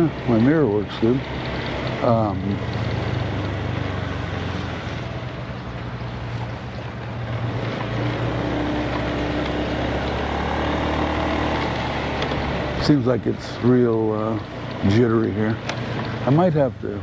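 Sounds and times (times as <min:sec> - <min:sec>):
scooter engine running: 0:00.0 - 0:16.7.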